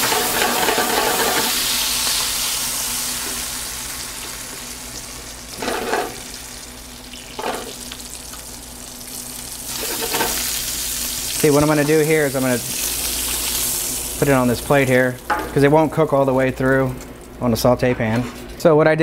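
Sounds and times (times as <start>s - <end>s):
steak sizzling in pan: 0.0s - 17.2s.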